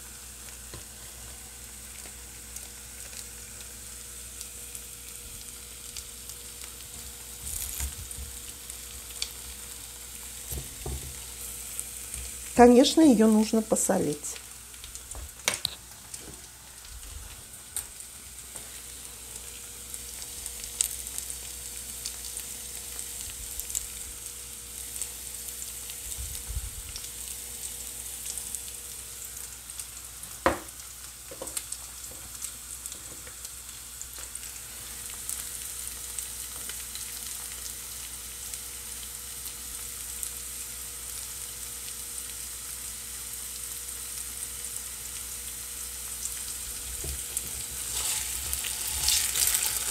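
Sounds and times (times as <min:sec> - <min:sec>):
potatoes sizzling in oil: 0:00.0 - 0:49.9.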